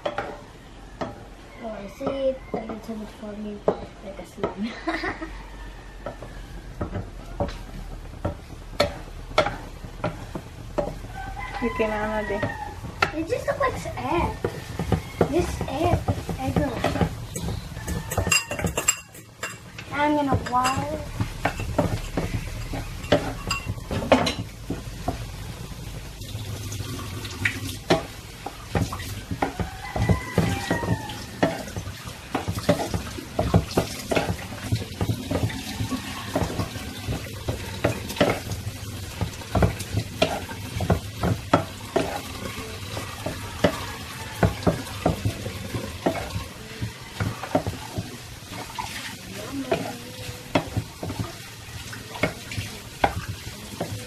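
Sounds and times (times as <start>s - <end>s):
spatula scraping and knocking pan: 0.0s - 4.6s, 5.7s - 54.0s
frying sizzle: 0.0s - 54.0s.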